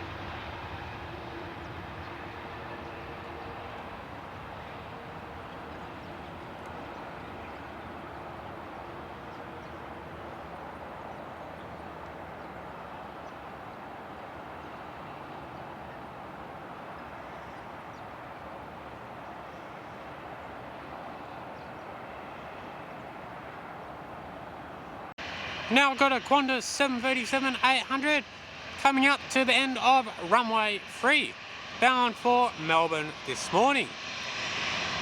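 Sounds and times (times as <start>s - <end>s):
distant jet engines running: 0.0s - 35.0s.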